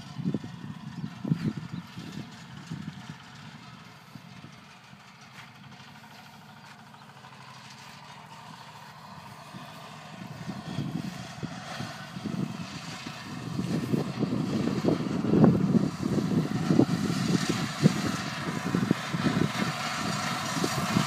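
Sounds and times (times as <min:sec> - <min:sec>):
low rumbling: 0:00.0 - 0:21.0
small tractor engine humming: 0:00.0 - 0:21.0.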